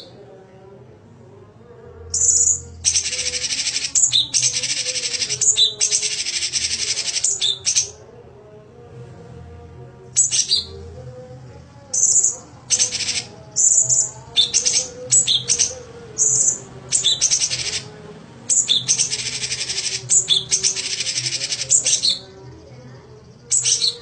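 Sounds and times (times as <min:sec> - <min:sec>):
songbird chirping and buzzy trills: 0:00.0 - 0:08.6, 0:10.1 - 0:24.0.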